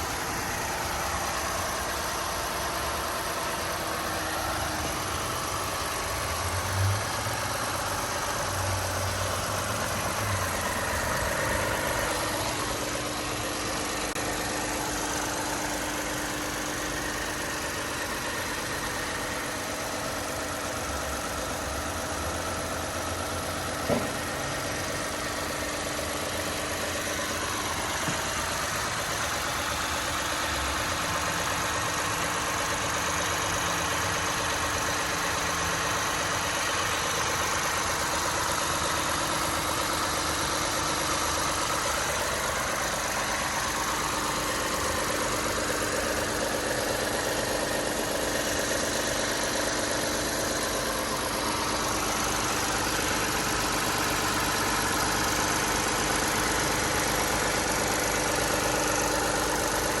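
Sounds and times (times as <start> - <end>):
car engine running: 0.0 - 60.0.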